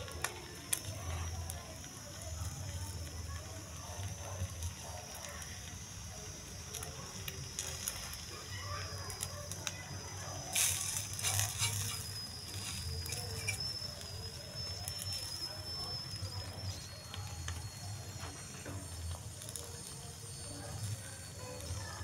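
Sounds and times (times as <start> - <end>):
egg sizzling in a pan: 0.0 - 22.0.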